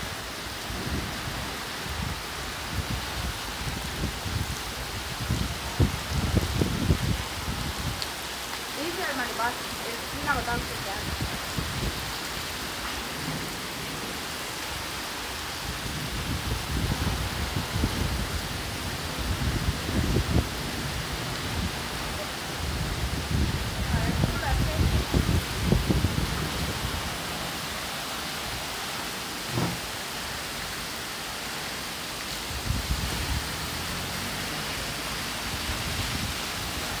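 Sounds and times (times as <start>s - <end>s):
heavy rain pouring: 0.0s - 37.0s
wind gusting against microphone: 0.0s - 37.0s.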